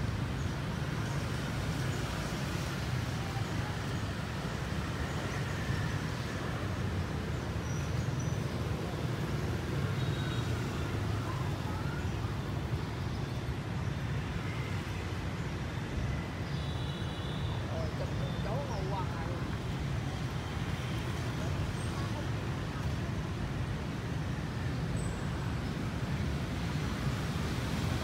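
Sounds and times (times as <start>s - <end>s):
city traffic hum: 0.0s - 28.0s.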